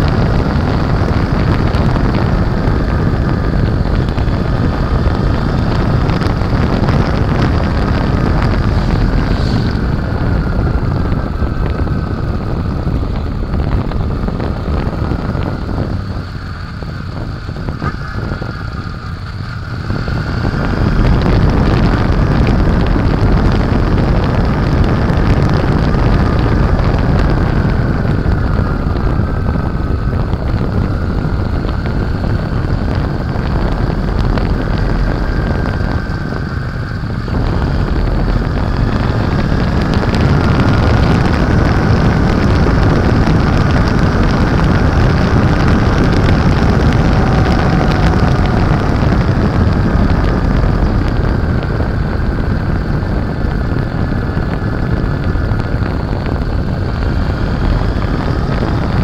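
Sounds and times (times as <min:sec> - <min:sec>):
motorcycle engine at road speed: 0:00.0 - 0:59.0
wind noise on microphone: 0:00.0 - 0:59.0.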